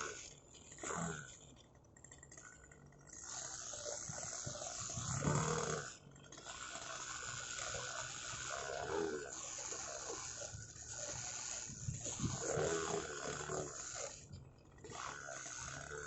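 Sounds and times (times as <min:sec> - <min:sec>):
model plane engine at high speed: 0:00.0 - 0:16.0.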